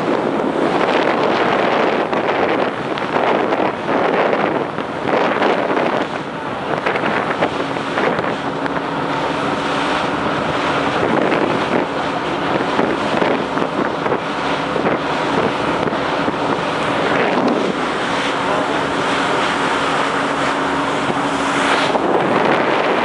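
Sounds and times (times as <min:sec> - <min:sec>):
boat engine hum: 0:00.0 - 0:23.0
rushing water: 0:00.0 - 0:23.0
wind buffeting microphone: 0:00.0 - 0:23.0.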